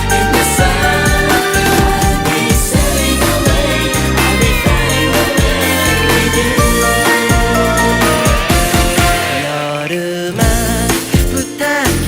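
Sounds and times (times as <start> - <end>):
pop music with singing: 0.0 - 12.0.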